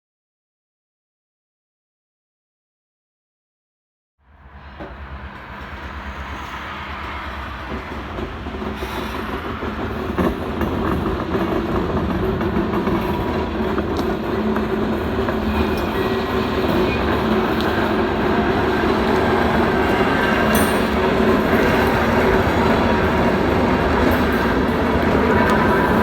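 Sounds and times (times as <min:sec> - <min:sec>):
diesel freight train running: 0:04.3 - 0:26.0.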